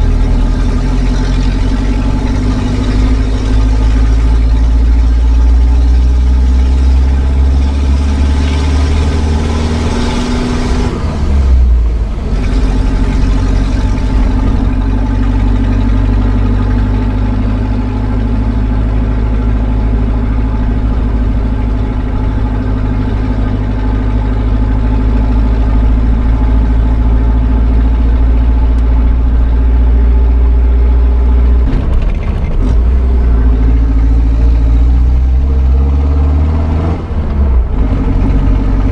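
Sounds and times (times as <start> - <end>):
diesel engine low drone: 0.0 - 38.9.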